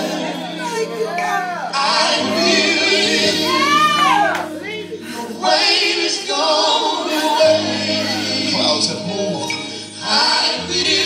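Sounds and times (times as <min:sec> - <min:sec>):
choir singing: 0:00.0 - 0:11.0.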